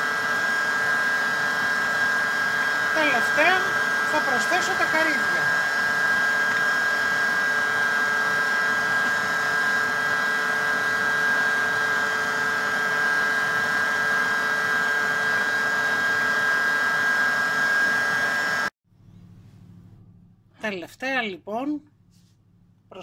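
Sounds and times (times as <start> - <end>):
stand mixer motor whine: 0.0 - 18.7.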